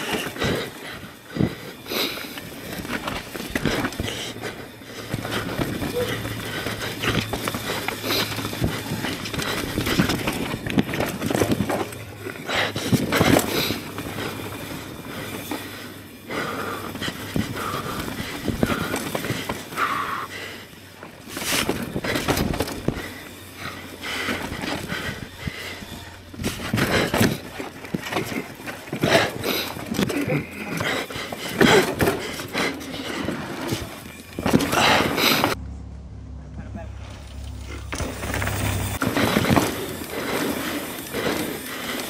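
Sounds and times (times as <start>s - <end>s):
bike knocking and rattling: 0.0s - 35.7s, 37.1s - 42.0s
bike tyres rolling on dirt: 0.0s - 35.7s, 37.0s - 42.0s.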